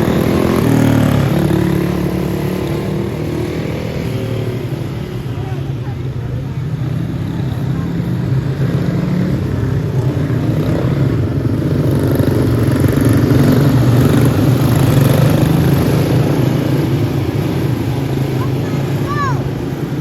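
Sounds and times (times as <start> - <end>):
kart engines racing: 0.0 - 20.0.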